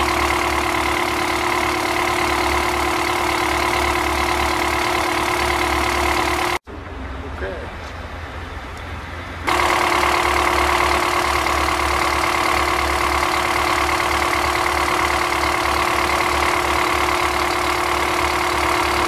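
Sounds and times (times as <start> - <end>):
diesel engine throbbing: 0.0 - 7.2, 9.5 - 19.0
steady engine whine: 0.0 - 19.0.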